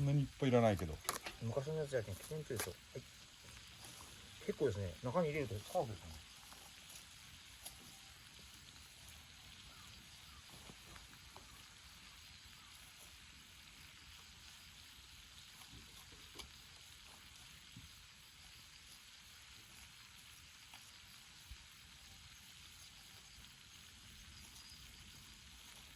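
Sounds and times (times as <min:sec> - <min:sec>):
faint outdoor hiss: 0:00.0 - 0:25.9.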